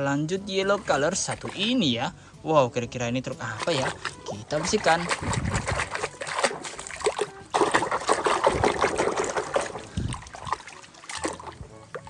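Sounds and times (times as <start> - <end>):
water trickling and splashing: 0.5 - 2.0, 3.4 - 12.0.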